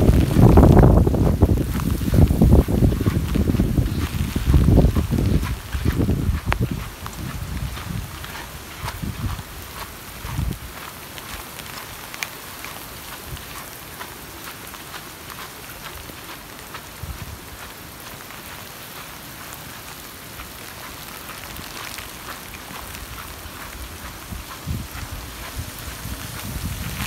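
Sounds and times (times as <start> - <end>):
rain falling steadily: 0.0 - 27.0.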